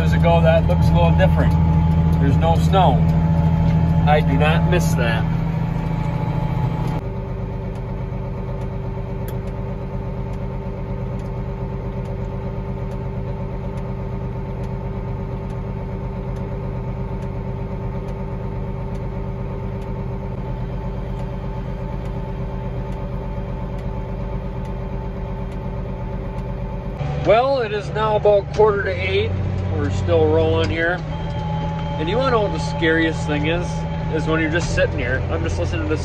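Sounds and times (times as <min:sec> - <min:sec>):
tractor diesel engine droning: 0:00.0 - 0:36.0.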